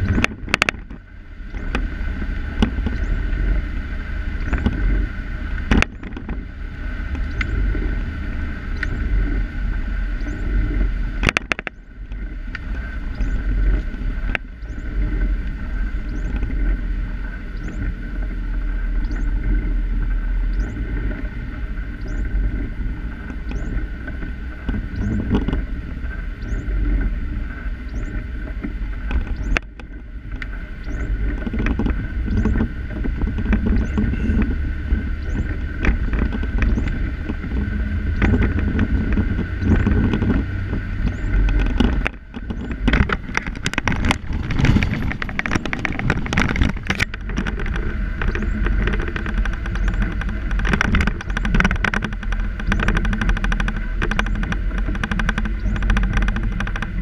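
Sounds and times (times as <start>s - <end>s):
car engine and tyre rumble: 0.0s - 57.0s
rattling and clicking in car cabin: 0.0s - 57.0s.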